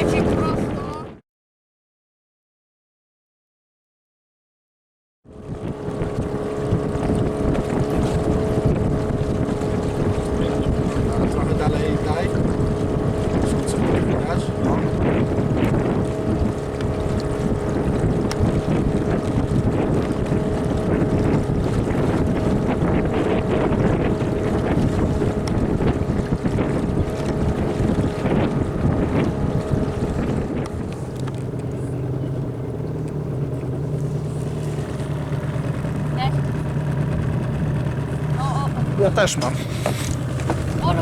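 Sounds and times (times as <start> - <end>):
motorboat engine running: 0.0 - 1.2, 5.3 - 41.0
water noise: 0.0 - 1.2, 5.3 - 41.0
wind buffeting microphone: 0.0 - 1.2, 5.3 - 41.0.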